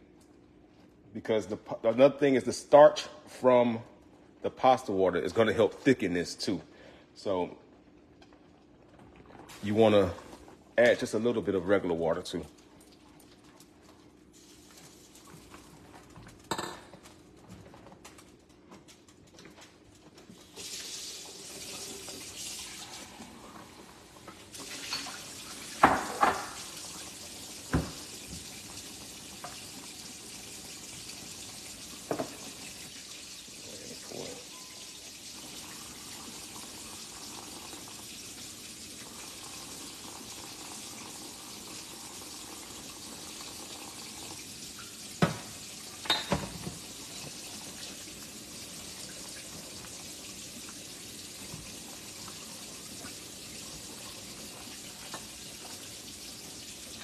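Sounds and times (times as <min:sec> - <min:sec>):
soup simmering with hiss: 0:00.2 - 0:16.5, 0:20.1 - 0:57.0.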